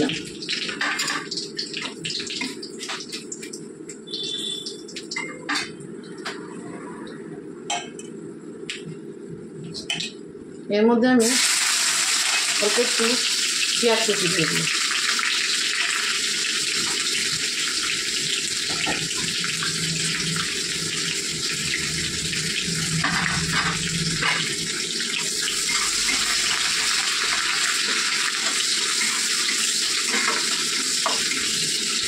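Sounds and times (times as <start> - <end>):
onion sizzling in hot oil: 0.0 - 5.2, 11.2 - 32.0.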